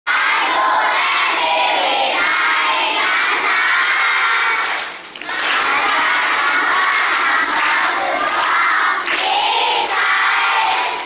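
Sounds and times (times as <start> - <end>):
children singing in unison: 0.1 - 11.0.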